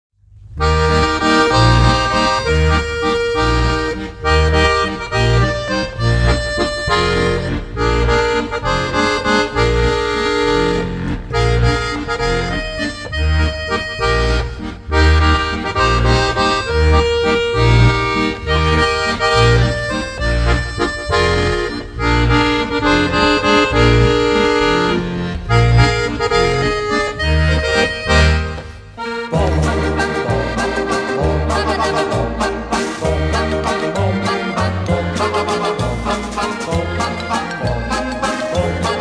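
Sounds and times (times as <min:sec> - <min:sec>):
accordion music with bass beat: 0:00.2 - 0:39.0.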